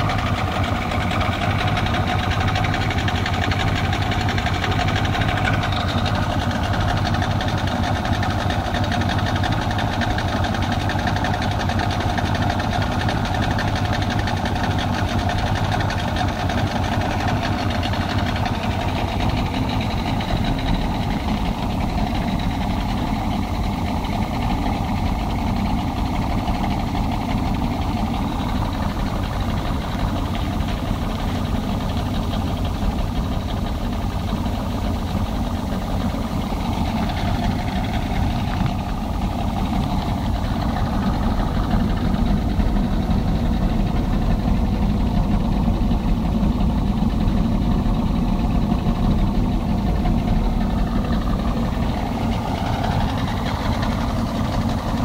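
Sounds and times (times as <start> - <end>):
outboard motor idling: 0.0 - 55.0.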